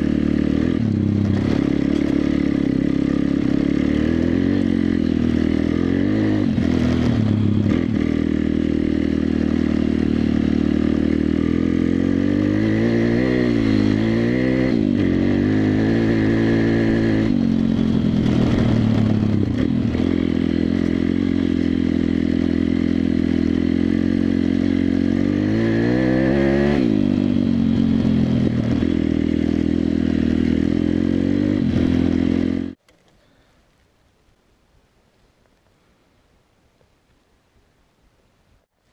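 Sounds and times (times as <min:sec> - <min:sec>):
motorbike engine running: 0:00.0 - 0:32.8.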